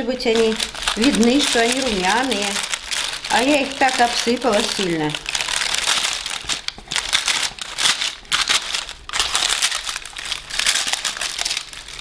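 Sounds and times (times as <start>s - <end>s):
baking parchment crinkling: 0.0s - 12.0s.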